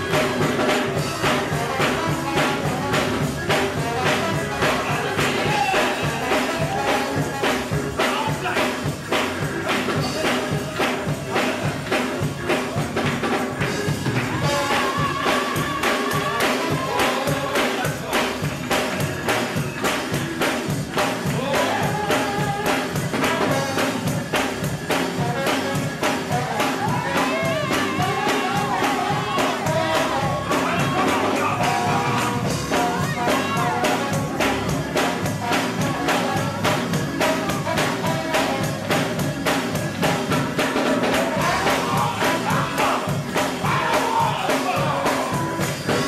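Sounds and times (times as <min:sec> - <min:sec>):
drum kit fast beat: 0:00.0 - 0:46.0
male choir singing gospel: 0:00.0 - 0:46.0.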